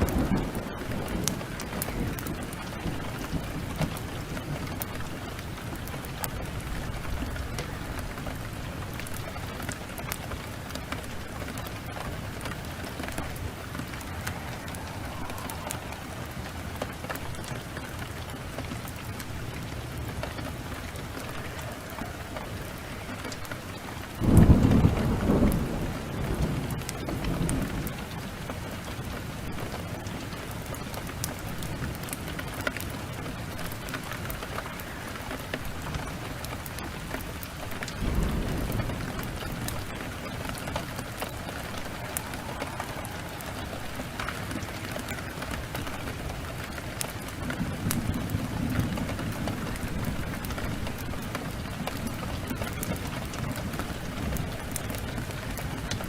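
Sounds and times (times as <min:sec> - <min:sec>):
heavy rain falling: 0:00.0 - 0:56.0
thunder clap rumbling: 0:00.0 - 0:56.0
wood fire crackling: 0:00.0 - 0:56.0.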